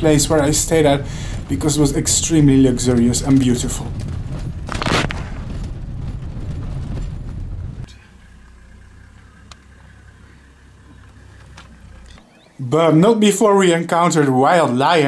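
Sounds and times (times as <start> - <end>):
vehicle rumbling over rough ground: 0.0 - 13.5
low steady hum: 0.0 - 13.7.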